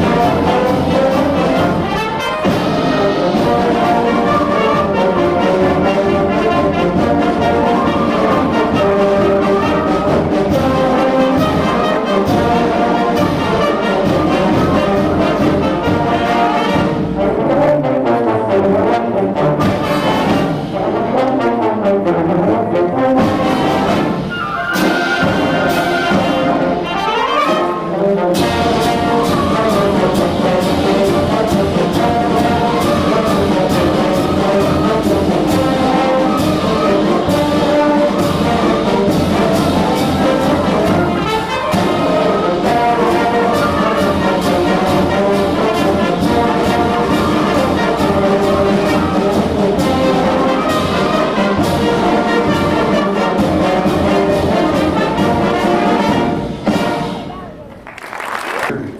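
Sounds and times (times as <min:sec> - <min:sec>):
concert band playing circus march: 0:00.0 - 0:58.8.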